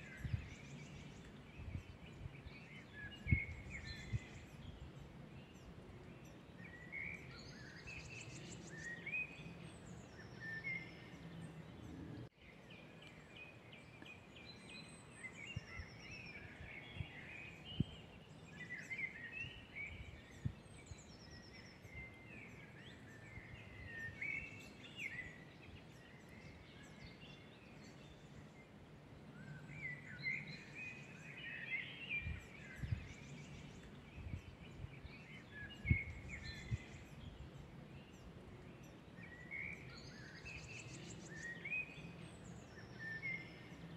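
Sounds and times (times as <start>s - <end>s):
faint outdoor hiss: 0.0s - 43.9s
songbirds singing: 0.0s - 43.9s.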